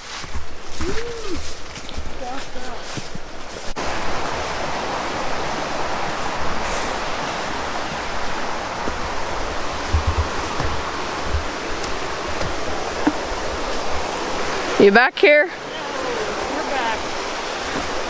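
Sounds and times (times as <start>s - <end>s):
low bumps: 0.0s - 18.0s
fast-flowing water rushing: 0.5s - 18.0s.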